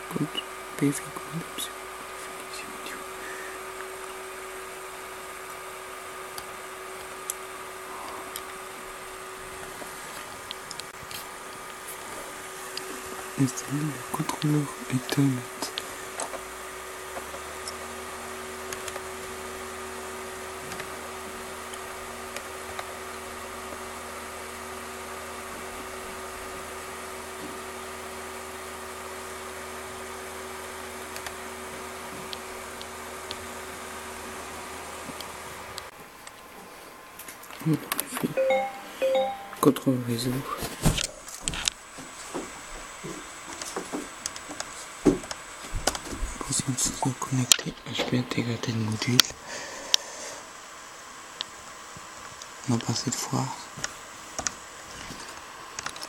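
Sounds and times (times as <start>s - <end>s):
steady background hiss: 0.0s - 45.7s.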